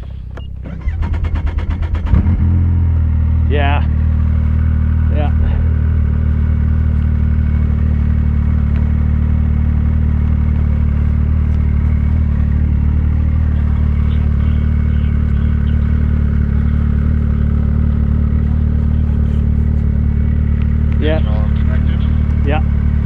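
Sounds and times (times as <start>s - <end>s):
snowmobile engine droning: 0.0s - 23.0s.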